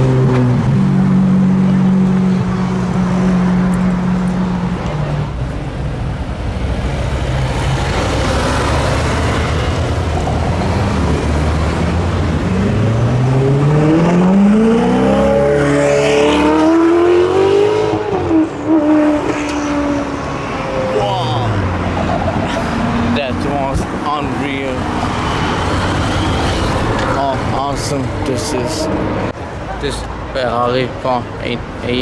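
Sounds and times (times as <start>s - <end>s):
car engine accelerating hard: 0.0s - 5.4s, 6.6s - 29.4s.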